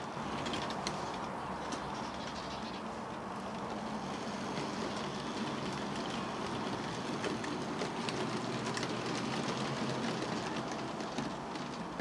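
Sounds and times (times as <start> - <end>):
model train wheels rattling: 0.0 - 12.0.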